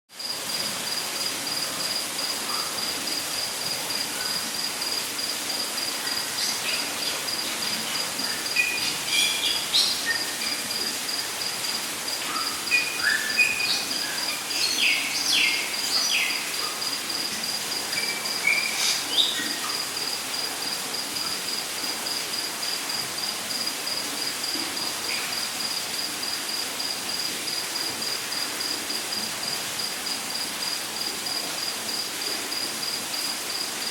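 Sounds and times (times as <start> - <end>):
cricket chirping: 0.2 - 33.9.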